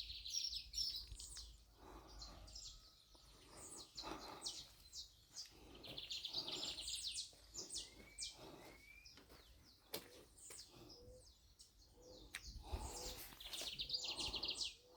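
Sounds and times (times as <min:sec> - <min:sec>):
bird high chirps: 0:00.0 - 0:14.9.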